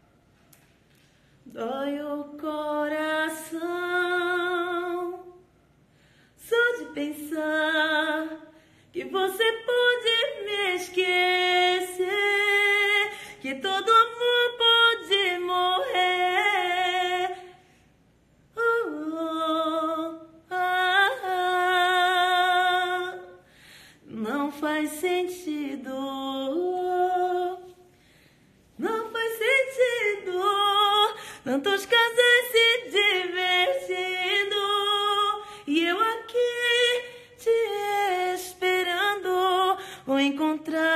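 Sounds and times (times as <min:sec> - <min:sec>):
woman singing a cappella: 0:01.4 - 0:05.6, 0:06.3 - 0:17.8, 0:18.5 - 0:28.1, 0:28.7 - 0:40.9.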